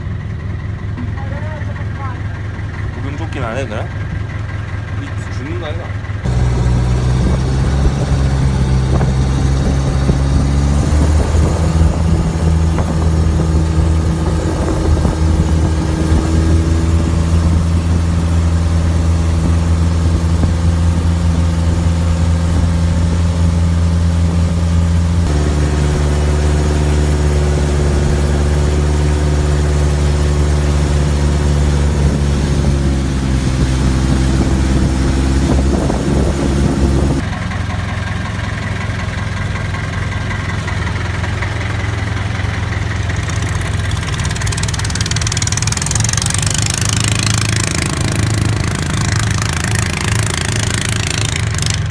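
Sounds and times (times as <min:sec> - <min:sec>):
motor engine running: 0:00.0 - 0:51.9.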